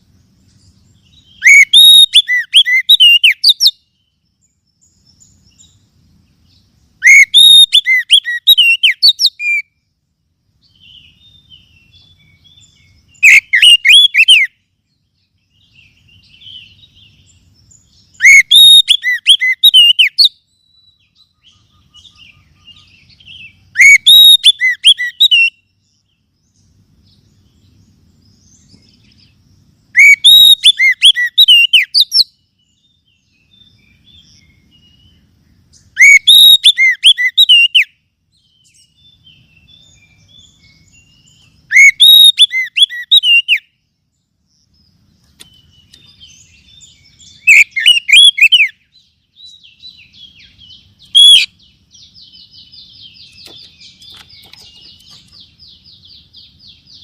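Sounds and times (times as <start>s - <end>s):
faint bird chirping: 0.0s - 57.0s
bird song chirps and whistles: 0.4s - 9.9s, 10.6s - 57.0s.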